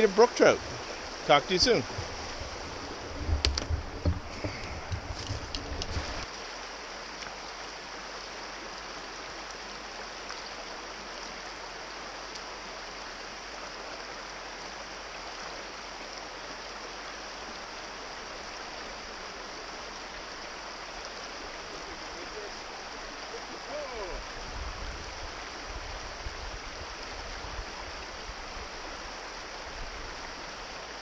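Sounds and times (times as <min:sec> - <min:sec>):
brook running over stones: 0:00.0 - 0:31.0.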